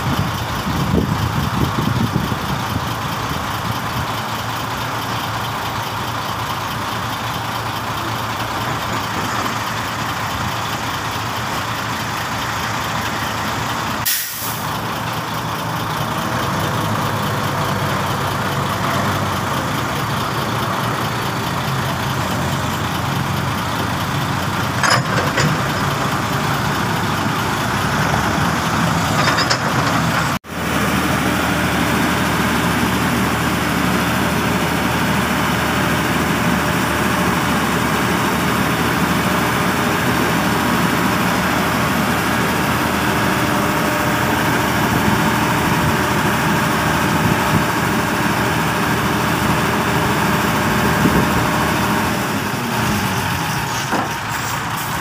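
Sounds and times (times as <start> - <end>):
diesel truck engines running: 0.0 - 55.0.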